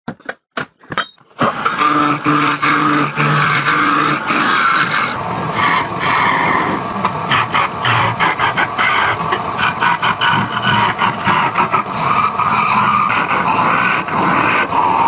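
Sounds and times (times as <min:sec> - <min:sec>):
wood lathe gouge scraping: 0:01.4 - 0:15.0.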